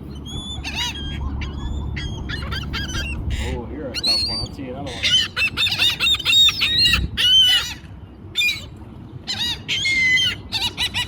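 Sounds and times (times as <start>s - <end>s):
seagulls squawking: 0.0s - 11.0s.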